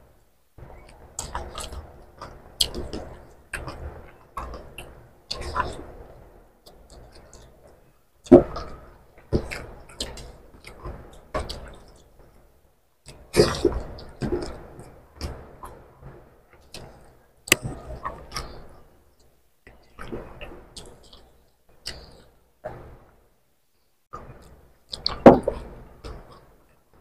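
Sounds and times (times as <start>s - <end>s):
people chewing and smacking: 0.6s - 12.4s, 13.0s - 23.0s, 24.1s - 26.8s.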